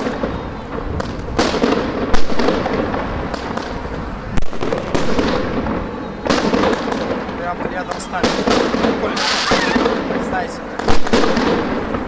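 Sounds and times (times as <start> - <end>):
continuous rushing noise: 0.0 - 12.0
firework shells bursting: 0.0 - 12.0.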